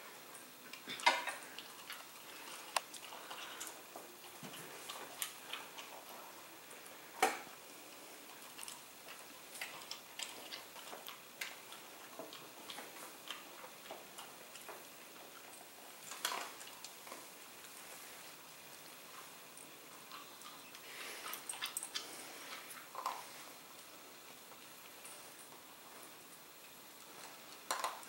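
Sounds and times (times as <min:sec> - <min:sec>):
dog crunching kibble: 0:00.7 - 0:25.7, 0:27.0 - 0:28.0.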